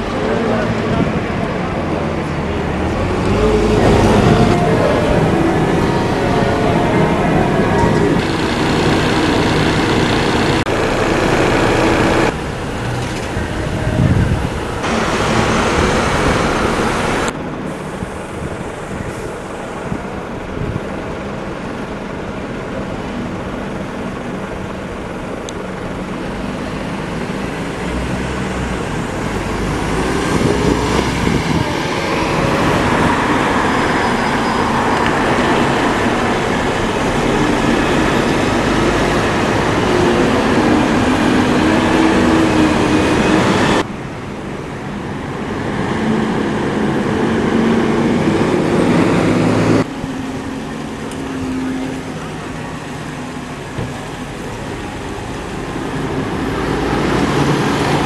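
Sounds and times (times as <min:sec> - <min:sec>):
bus engine pulling away: 0:00.0 - 0:58.0
buses driving past: 0:00.0 - 0:58.0.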